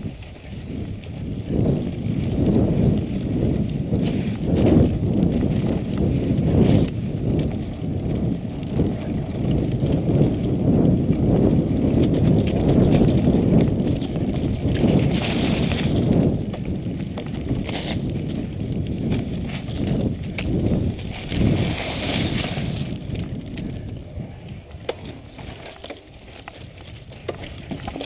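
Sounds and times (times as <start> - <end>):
bike tyres rumbling on dirt: 0.0 - 28.0
bike and camera mount rattling: 0.3 - 24.0, 24.6 - 28.0.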